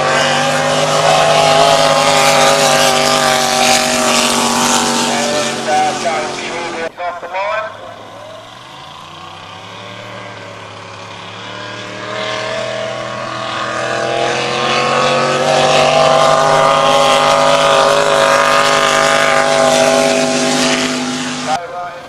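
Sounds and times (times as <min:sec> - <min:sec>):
boat engine running hard: 0:00.0 - 0:07.0, 0:07.8 - 0:21.6.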